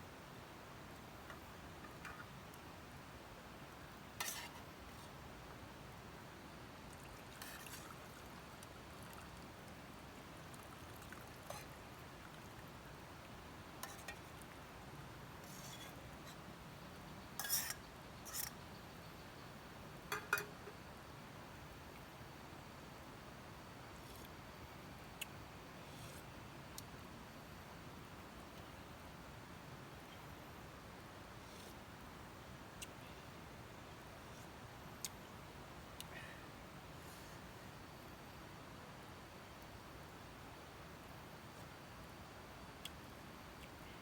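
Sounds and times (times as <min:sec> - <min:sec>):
faint steady hiss: 0:00.0 - 0:44.0.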